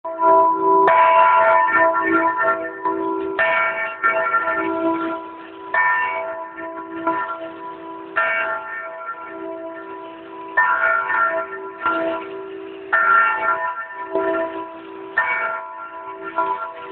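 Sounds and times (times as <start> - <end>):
large bell ringing: 0.1 - 16.9.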